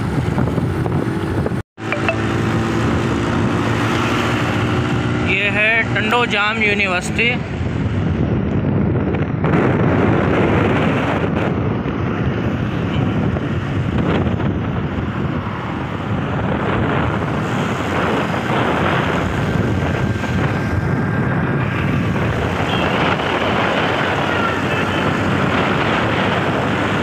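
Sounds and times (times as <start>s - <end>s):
wind rush over microphone: 0.0s - 1.6s, 2.5s - 27.0s
road noise: 0.0s - 27.0s.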